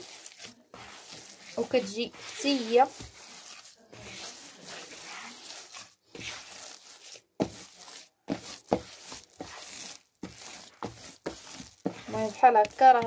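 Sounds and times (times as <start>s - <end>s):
dough squishing in a bowl: 0.0s - 13.0s.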